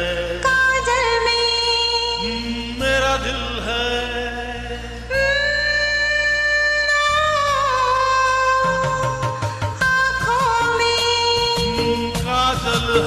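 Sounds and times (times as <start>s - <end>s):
film song karaoke backing track: 0.0s - 13.0s.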